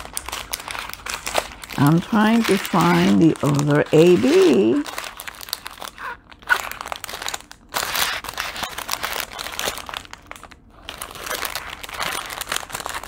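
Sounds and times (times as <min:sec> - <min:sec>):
small plastic bags crinkling: 0:00.0 - 0:13.0.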